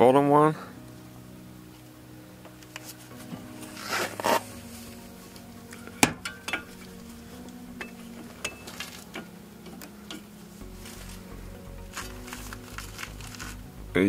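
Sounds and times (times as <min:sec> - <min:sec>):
faint background music: 0:00.0 - 0:14.0.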